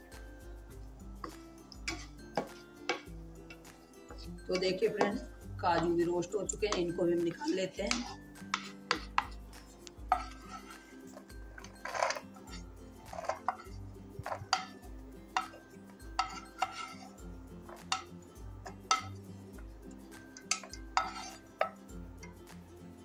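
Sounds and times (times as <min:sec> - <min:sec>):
quiet background music with beat: 0:00.0 - 0:23.0
spatula scraping and tapping pan: 0:01.2 - 0:22.4.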